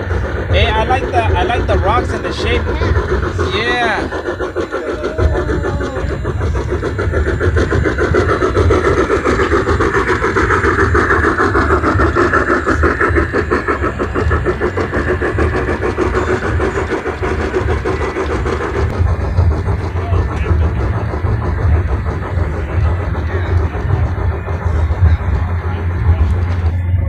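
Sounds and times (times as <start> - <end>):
model train motor whir: 0.0 - 27.0
wheels and gears clicking: 0.0 - 27.0.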